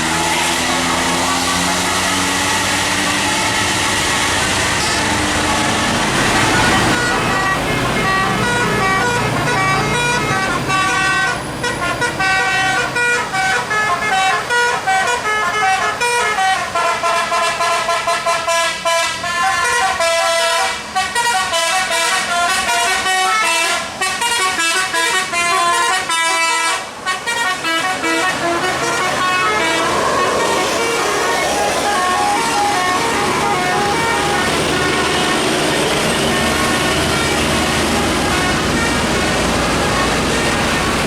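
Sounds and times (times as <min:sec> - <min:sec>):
musical air horn tune: 0:00.0 - 0:41.0.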